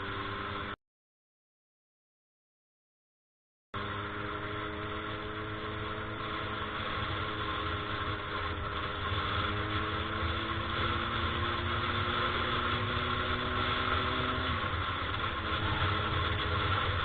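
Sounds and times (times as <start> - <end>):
road noise: 0.0 - 0.8, 3.8 - 17.0
vehicle engine running: 0.0 - 0.8, 3.8 - 17.0.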